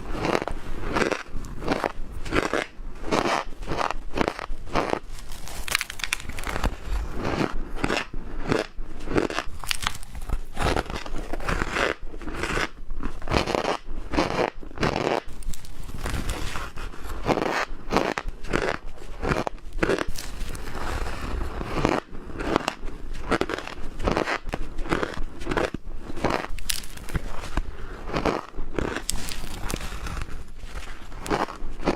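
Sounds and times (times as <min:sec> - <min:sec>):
ice being chewed: 0:00.0 - 0:31.9.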